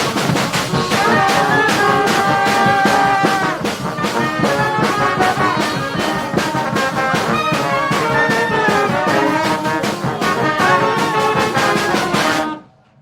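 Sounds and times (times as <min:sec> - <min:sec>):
steady drum beat: 0:00.0 - 0:12.6
brass band playing: 0:00.0 - 0:12.7.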